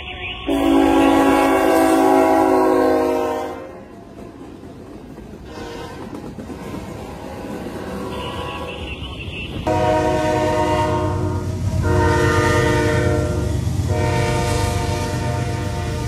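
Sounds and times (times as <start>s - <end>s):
freight train rumbling past: 0.0s - 16.0s
locomotive air horn blast: 0.4s - 4.3s, 5.4s - 16.0s.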